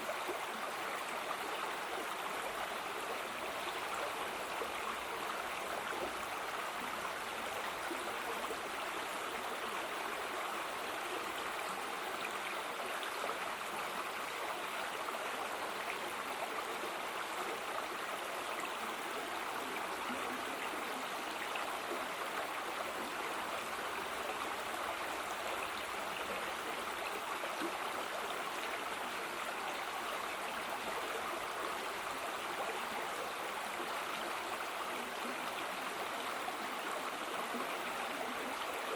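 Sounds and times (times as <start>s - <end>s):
stream water running over rocks: 0.0s - 38.9s.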